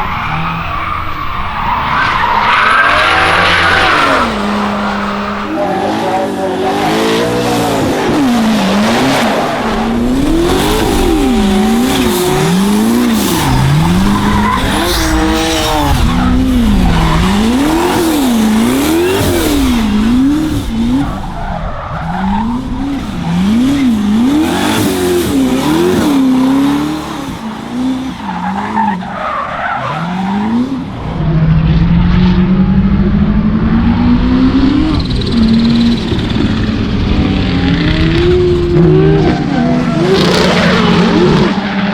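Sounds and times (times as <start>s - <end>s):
tyres squealing and skidding: 0.0s - 31.0s, 38.2s - 41.9s
car engine revving: 0.0s - 41.9s.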